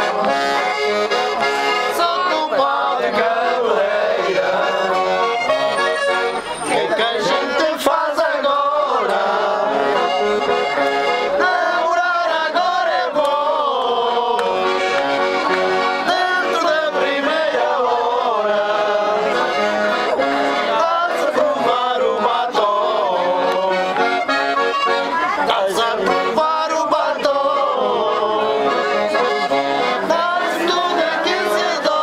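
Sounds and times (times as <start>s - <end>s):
accordion playing folk tune: 0.0s - 32.0s.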